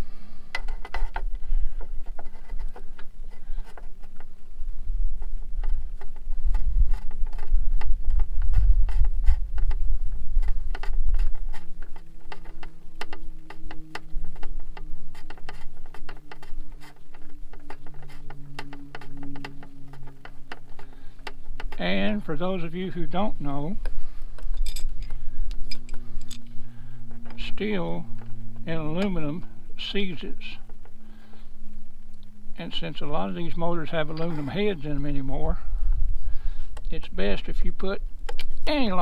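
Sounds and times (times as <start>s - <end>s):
faint steady hum: 0.0s - 39.0s
wind rumble on microphone: 0.0s - 39.0s.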